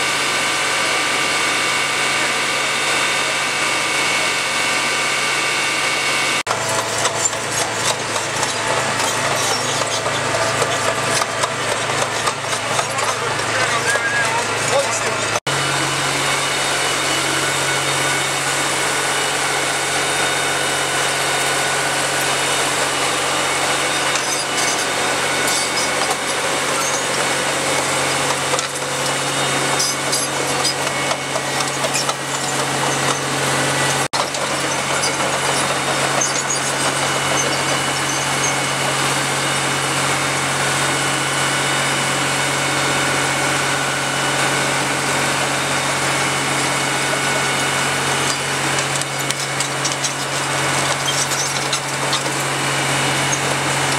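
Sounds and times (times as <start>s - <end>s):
engine hum: 0.0s - 53.9s.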